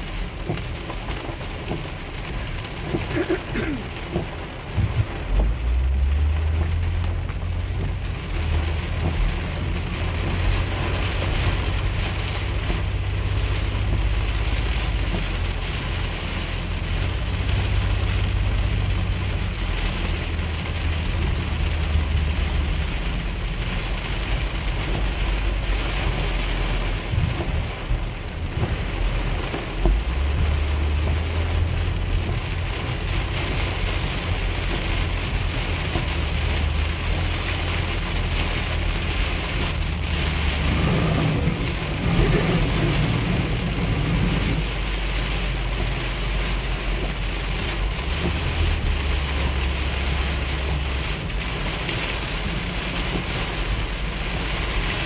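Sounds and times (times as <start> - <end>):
heavy rain on car roof: 0.0 - 55.0
steady low rumble: 2.0 - 55.0.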